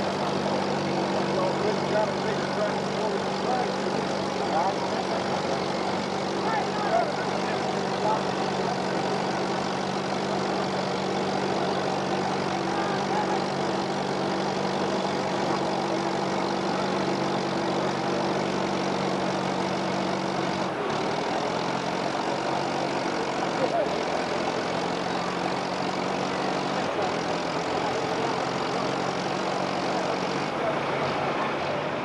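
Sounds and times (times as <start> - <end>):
tractor engine under load: 0.0 - 32.0.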